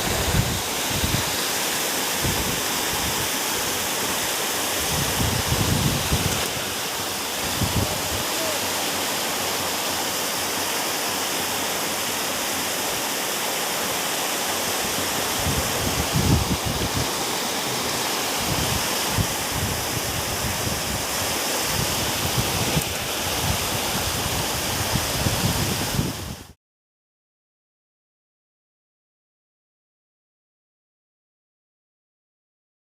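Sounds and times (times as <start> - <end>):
stream water rushing: 0.0 - 26.6.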